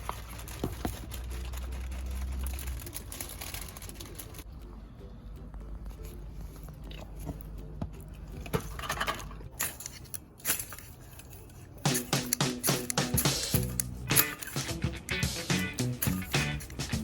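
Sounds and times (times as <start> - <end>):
music: 2.2 - 10.8, 11.7 - 17.0.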